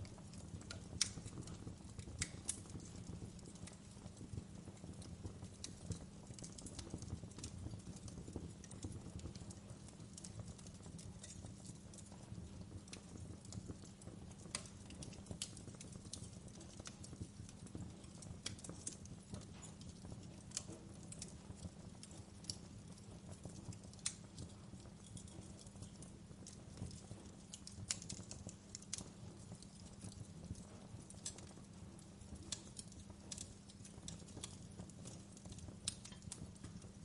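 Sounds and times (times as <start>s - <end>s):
fire crackling: 0.0s - 37.0s.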